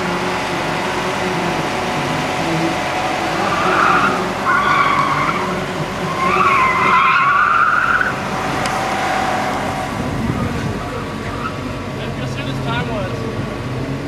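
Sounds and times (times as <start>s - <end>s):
car tyres squealing: 0.0s - 12.3s
car engine pulling: 0.0s - 14.0s.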